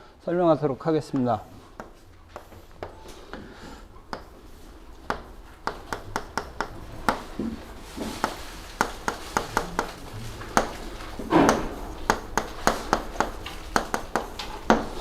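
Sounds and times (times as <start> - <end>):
faint room hum: 0.0 - 15.0
writing taps and scratches on board: 1.1 - 3.5, 4.1 - 4.3, 5.0 - 15.0.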